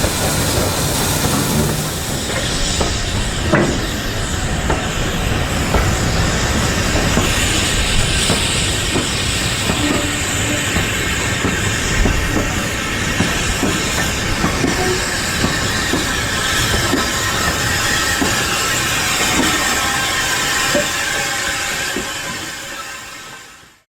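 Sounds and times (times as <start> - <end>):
steam hiss: 0.0 - 23.8
train wheels clicking on rails: 0.0 - 23.8.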